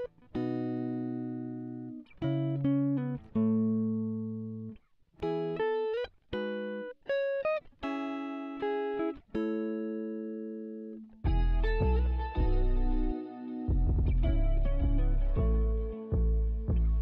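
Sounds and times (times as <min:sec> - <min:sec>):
clean guitar melody: 0:00.0 - 0:17.0.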